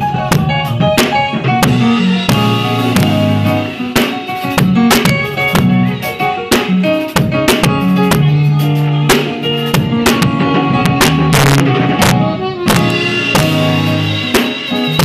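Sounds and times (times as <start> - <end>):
drum hits: 0.0 - 5.9, 6.5 - 8.3, 9.1 - 15.0
electronic keyboard chords: 0.0 - 15.0.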